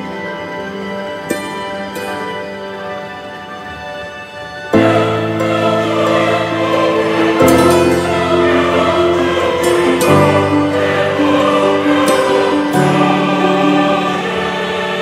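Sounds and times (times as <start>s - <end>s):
choir-like chords: 0.0s - 15.0s.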